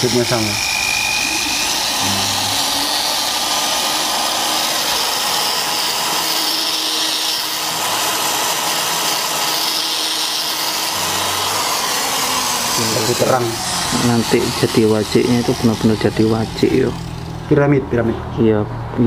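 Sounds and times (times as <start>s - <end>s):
rotary tool cutting wood: 0.0s - 17.5s.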